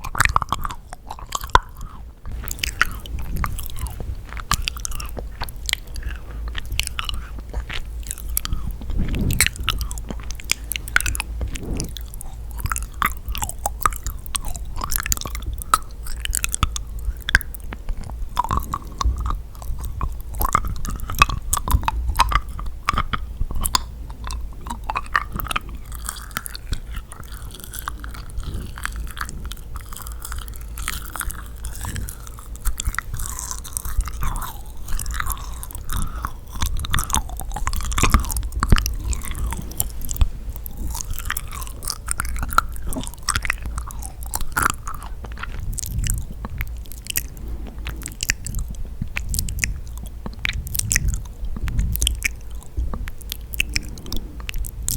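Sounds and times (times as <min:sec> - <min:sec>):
sticky chewing mouth sounds: 0:00.0 - 0:54.9.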